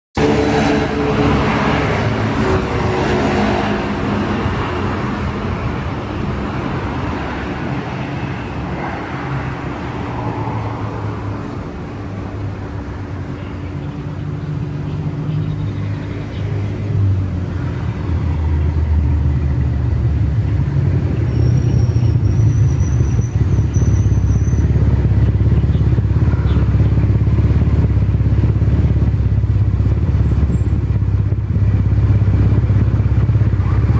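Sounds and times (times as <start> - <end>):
engine rumble: 0.2 - 33.9.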